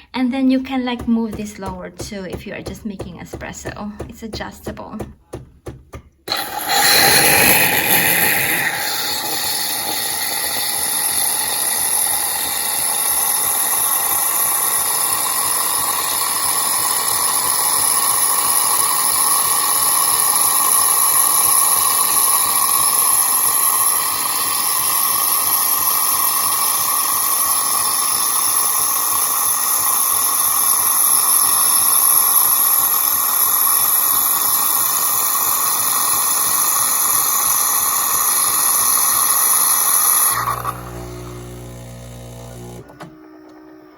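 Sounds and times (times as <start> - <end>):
espresso machine steam hiss: 6.3 - 42.8.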